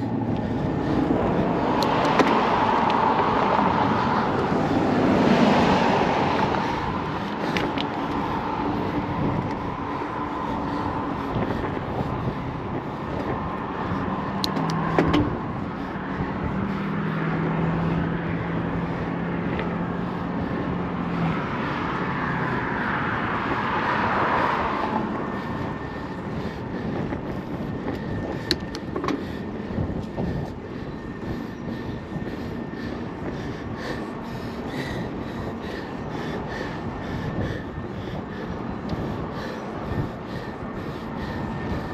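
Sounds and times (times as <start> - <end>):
road traffic rushing past: 0.0 - 41.9
vehicle passing: 0.0 - 41.9.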